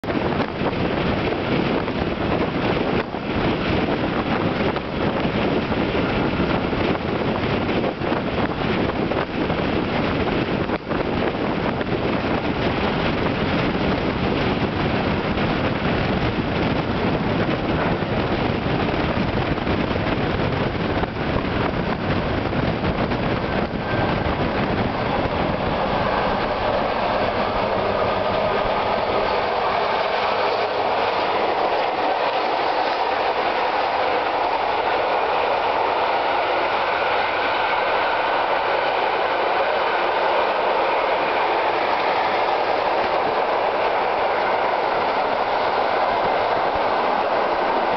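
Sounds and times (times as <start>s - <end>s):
electric train humming: 0.0s - 47.9s
rushing air: 0.0s - 47.9s
train wheels rumbling on rails: 0.0s - 47.9s.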